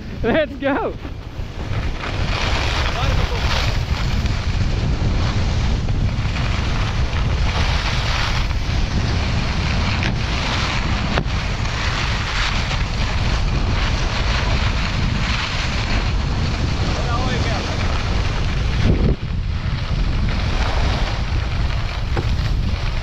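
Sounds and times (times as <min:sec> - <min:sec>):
skis sliding over snow: 0:00.0 - 0:23.0
wind buffeting microphone: 0:00.0 - 0:23.0.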